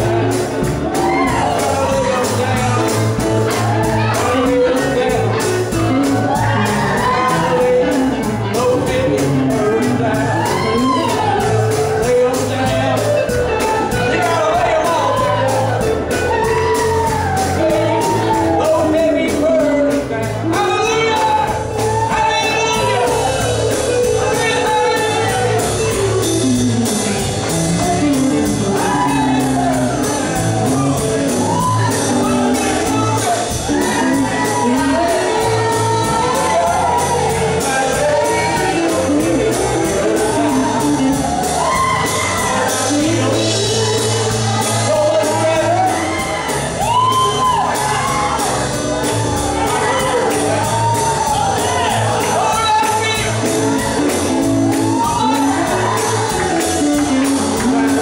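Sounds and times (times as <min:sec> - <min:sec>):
congregation singing and shouting: 0:00.0 - 0:58.0
live gospel band playing: 0:00.0 - 0:58.0.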